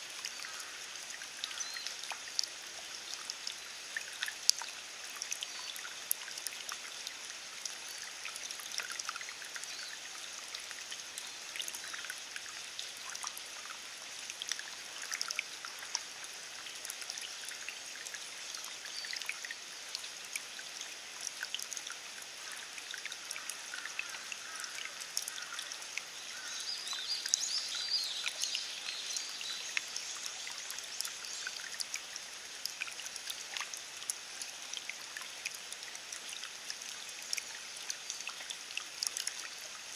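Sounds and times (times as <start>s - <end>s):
drops ticking on leaves and puddles: 0.0s - 39.9s
steady rain hiss: 0.0s - 39.9s.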